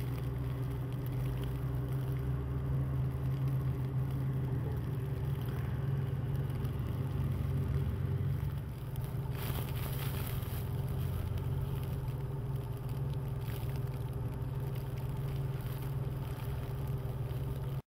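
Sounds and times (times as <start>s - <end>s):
vehicle engine humming: 0.0s - 17.8s.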